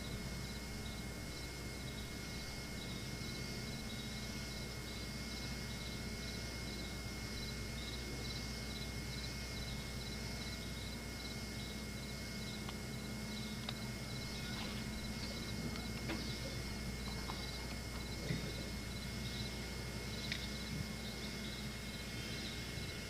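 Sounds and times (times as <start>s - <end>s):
camcorder hum and hiss: 0.0s - 23.0s
insects chirping: 0.0s - 23.0s.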